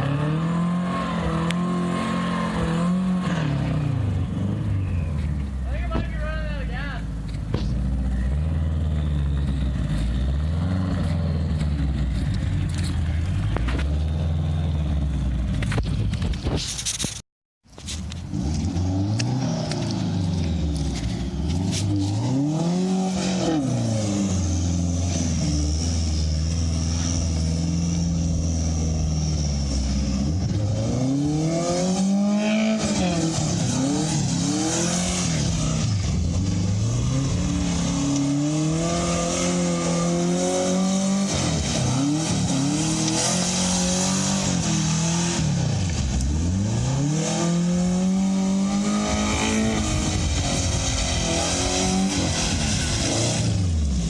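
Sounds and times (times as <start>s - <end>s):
car engine revving: 0.0s - 16.3s, 18.2s - 54.0s.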